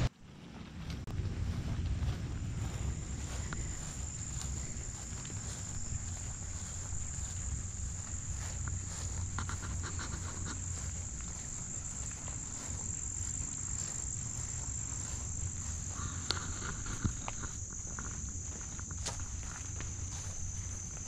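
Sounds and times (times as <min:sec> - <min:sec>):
low rumble: 0:00.0 - 0:21.0
soft footsteps on grass: 0:00.0 - 0:21.0
insects chirping: 0:01.1 - 0:21.0.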